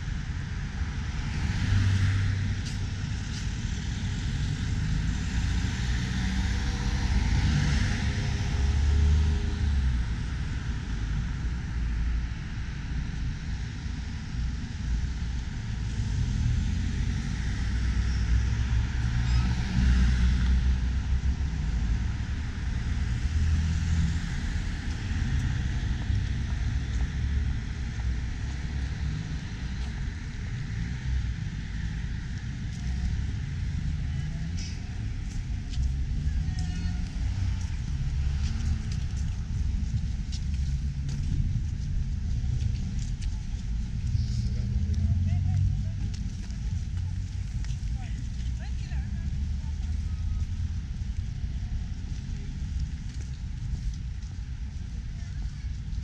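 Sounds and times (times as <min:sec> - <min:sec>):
vehicles driving past: 0:00.0 - 0:56.0.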